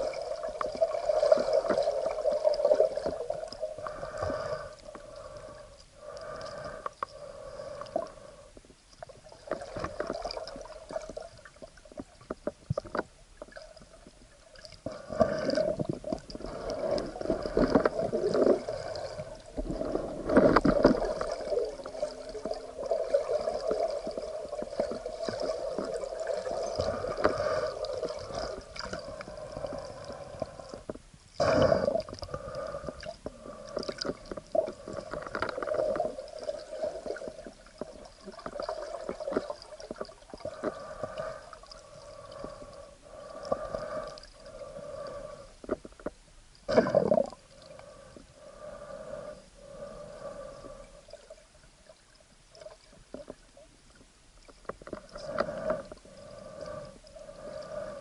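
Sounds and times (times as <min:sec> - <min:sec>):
underwater gurgling: 0:00.0 - 0:58.0.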